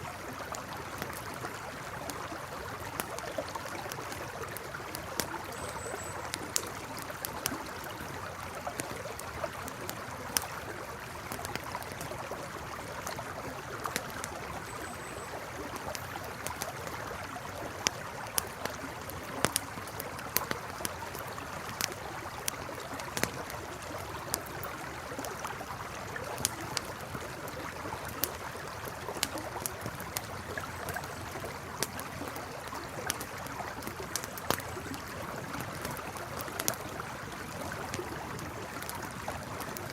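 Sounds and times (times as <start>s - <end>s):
campfire crackling: 0.0s - 39.9s
flowing river: 0.0s - 39.9s
fire pops: 0.5s - 39.9s.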